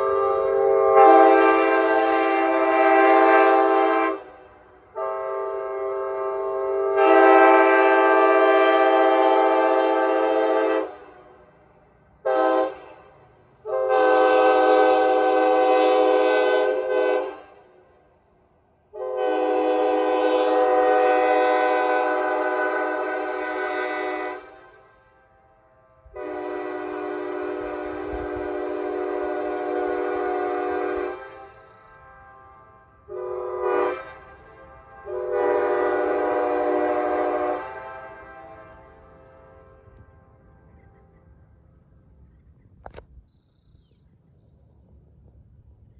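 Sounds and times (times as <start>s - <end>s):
locomotive air horn blasts: 0.0s - 17.9s, 18.9s - 41.2s.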